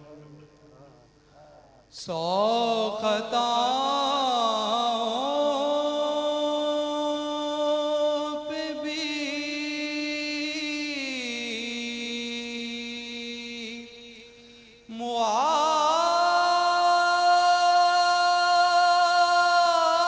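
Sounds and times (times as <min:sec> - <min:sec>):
man singing a hymn unaccompanied: 0:01.9 - 0:20.0.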